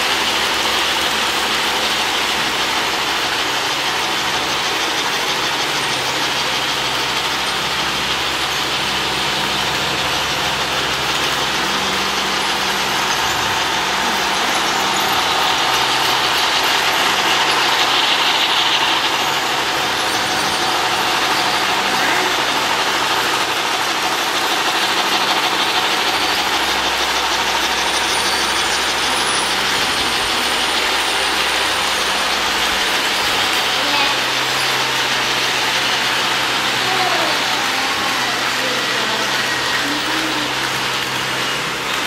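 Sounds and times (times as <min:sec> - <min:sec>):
low engine-like hum: 0:00.0 - 0:42.0
model train rumble on track: 0:00.0 - 0:42.0.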